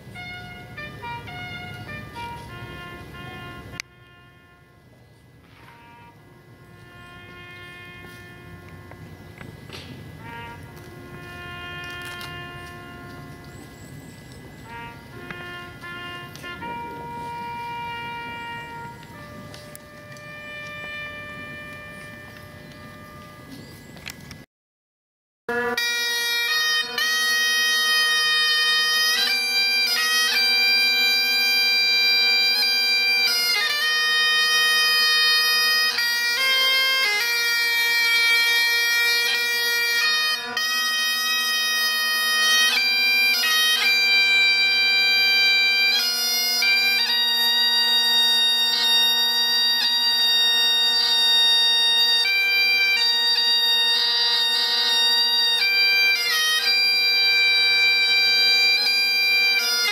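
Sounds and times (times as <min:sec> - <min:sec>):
bagpipes playing melody: 0:00.0 - 0:24.1, 0:25.5 - 0:59.9.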